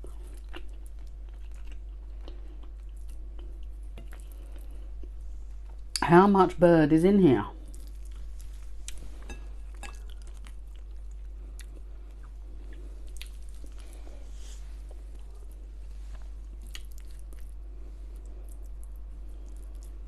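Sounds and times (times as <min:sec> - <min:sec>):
chewing with mouth smacks: 0:00.0 - 0:06.0, 0:07.6 - 0:20.0
steady low hum: 0:00.0 - 0:20.0.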